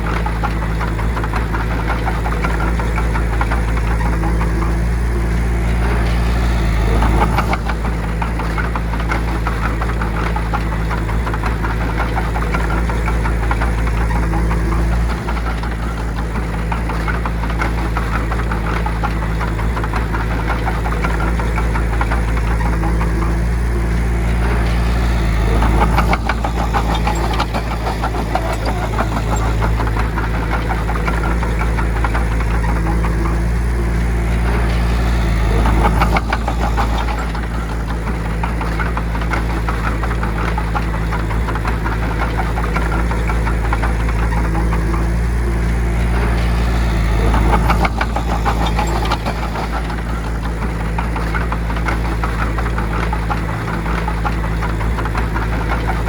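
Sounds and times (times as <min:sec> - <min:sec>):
bulldozer diesel engine clattering: 0:00.0 - 0:56.0.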